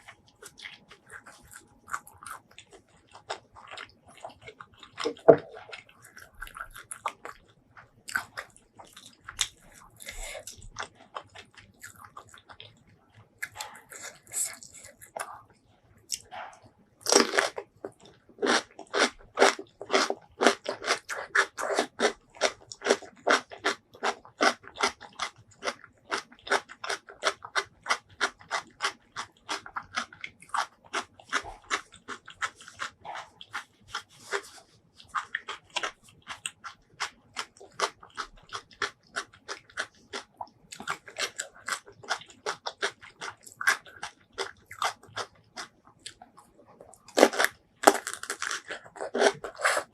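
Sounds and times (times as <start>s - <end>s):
chewing crunchy food: 0.0s - 49.9s.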